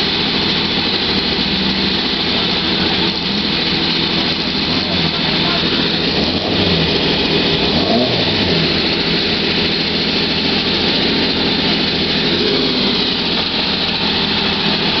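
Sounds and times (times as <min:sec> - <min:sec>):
race car engine idling: 0:00.0 - 0:15.0.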